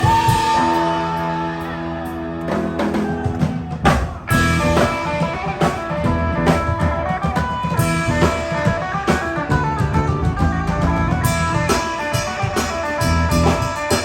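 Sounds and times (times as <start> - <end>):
bass guitar: 0.0 - 14.0
electric guitar: 0.0 - 14.0.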